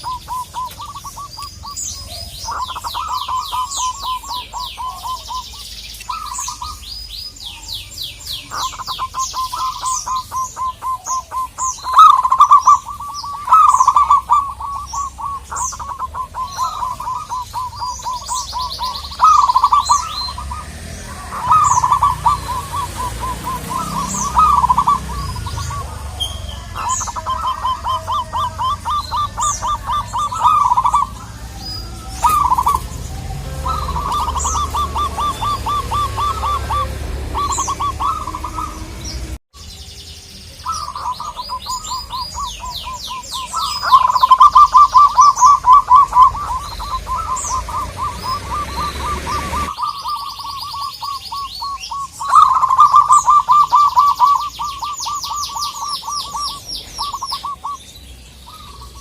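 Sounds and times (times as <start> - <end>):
doves cooing: 0.0 - 39.4, 40.6 - 59.0
high falling bird chirps: 0.0 - 59.0.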